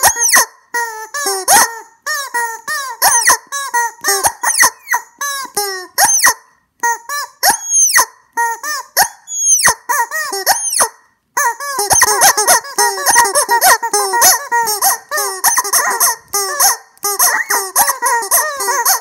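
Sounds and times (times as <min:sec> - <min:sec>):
rubber chicken toys squawking: 0:00.0 - 0:19.0.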